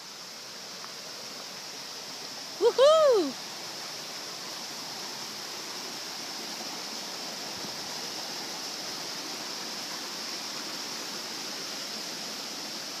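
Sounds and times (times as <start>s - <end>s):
stream water rushing over rocks: 0.0s - 13.0s.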